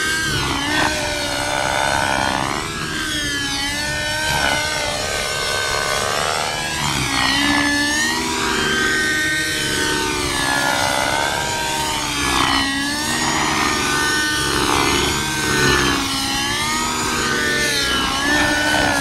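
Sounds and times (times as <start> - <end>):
model helicopter rotors whining: 0.0 - 19.0.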